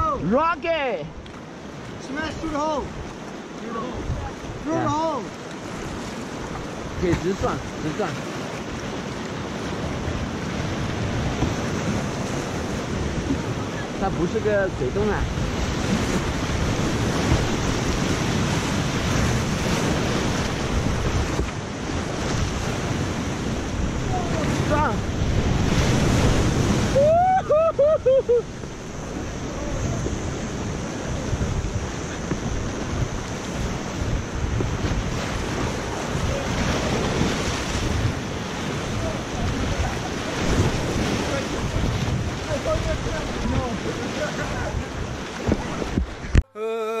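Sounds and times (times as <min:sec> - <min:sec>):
waves breaking over boat: 0:00.0 - 0:46.6
whitewater rushing and splashing: 0:00.0 - 0:47.0
wind buffeting microphone: 0:01.2 - 0:46.5.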